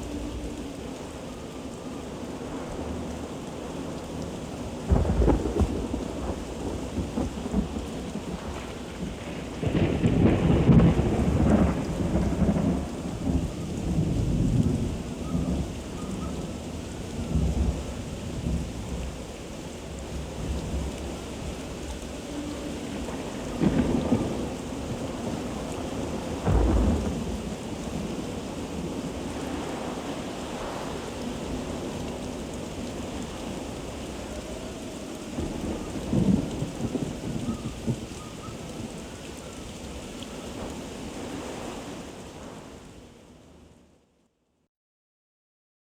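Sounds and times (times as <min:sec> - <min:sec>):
thunder rumbling: 0:00.0 - 0:42.8
heavy rain: 0:00.0 - 0:44.1.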